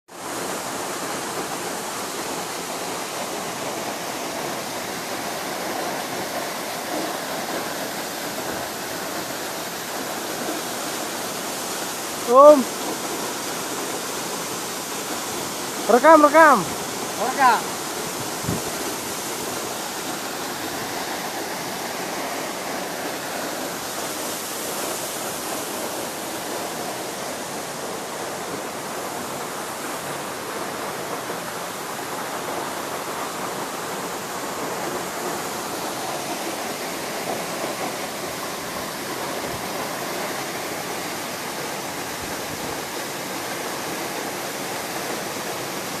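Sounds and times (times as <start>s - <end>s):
waterfall pouring: 0.2s - 46.0s.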